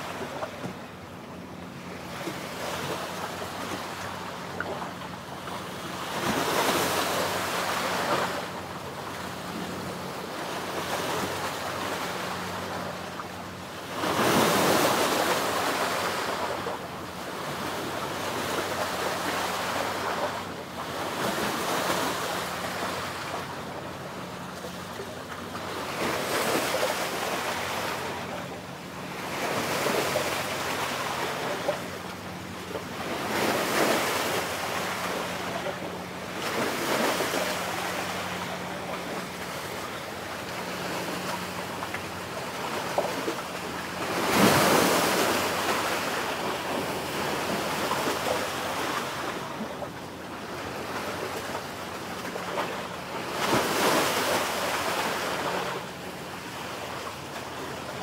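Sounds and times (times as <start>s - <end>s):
faint low engine hum: 0.0s - 58.0s
sea waves washing ashore: 0.0s - 58.0s.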